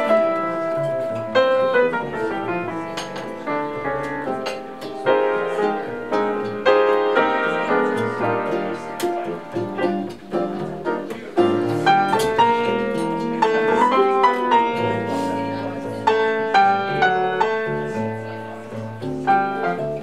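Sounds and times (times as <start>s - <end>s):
jazz piano: 0.0s - 20.0s.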